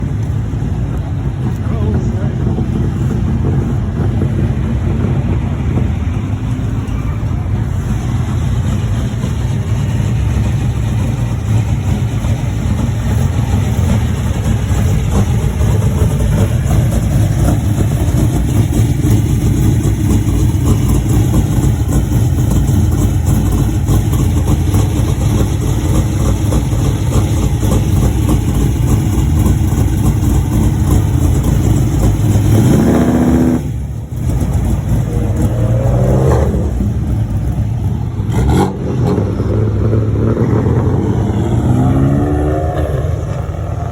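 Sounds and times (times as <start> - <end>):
car engine running steadily: 0.0 - 43.9.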